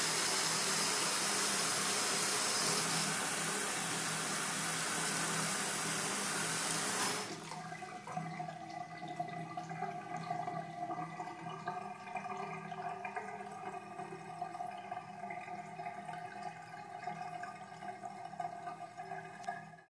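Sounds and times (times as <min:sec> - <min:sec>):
tap water splashing into sink: 0:00.0 - 0:19.8.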